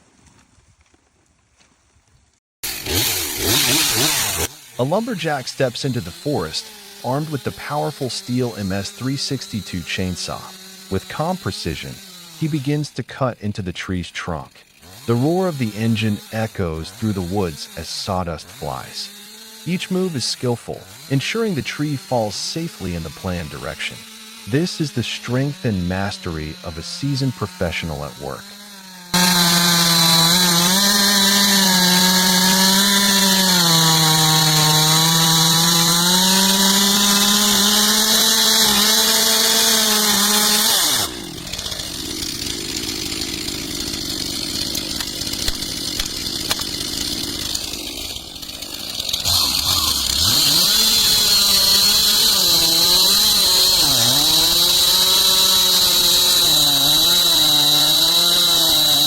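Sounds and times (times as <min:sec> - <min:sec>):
chainsaw cutting wood: 0:02.6 - 0:59.0.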